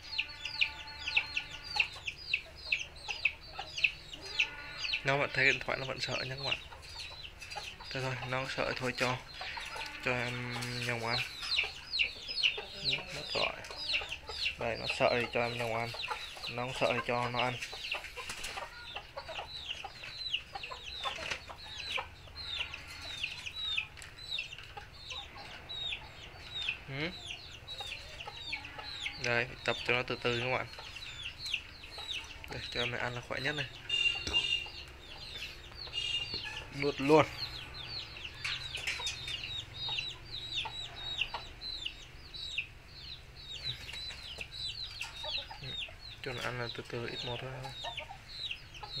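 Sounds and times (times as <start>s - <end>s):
chickens clucking: 0.0s - 49.0s
chicks peeping: 0.0s - 49.0s.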